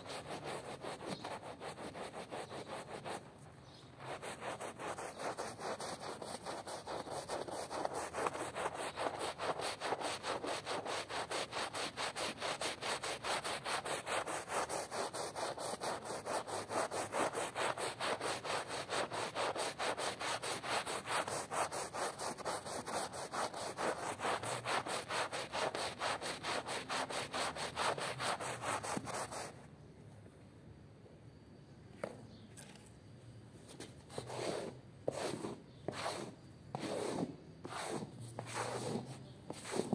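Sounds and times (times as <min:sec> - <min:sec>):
hand brush scrubbing a rug: 0:00.0 - 0:29.6, 0:34.2 - 0:39.9.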